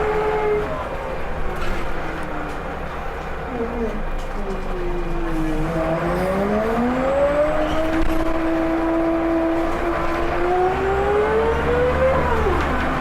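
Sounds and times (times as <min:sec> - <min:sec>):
bus engine and driveline whine: 0:00.0 - 0:13.0.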